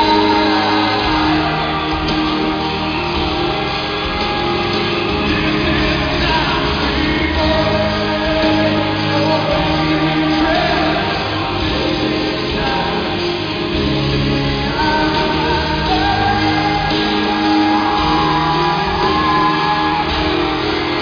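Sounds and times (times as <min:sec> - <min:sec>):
live rock ballad: 0:00.0 - 0:21.0
male lead vocal: 0:00.0 - 0:21.0.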